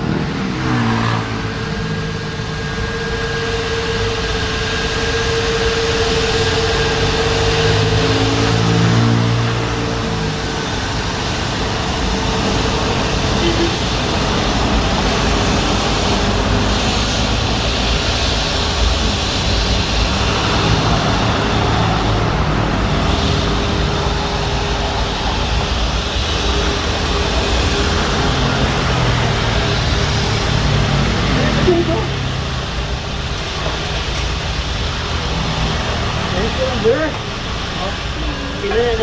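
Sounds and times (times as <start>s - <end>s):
jet engines rumbling and whining: 0.0s - 39.0s.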